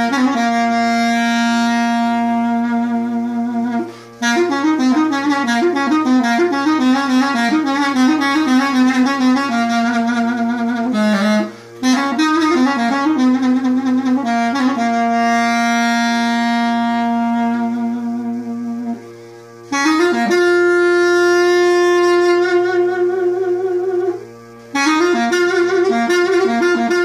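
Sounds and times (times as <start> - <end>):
faint low drone: 0.0 - 27.0
reed wind instrument melody: 0.0 - 27.0.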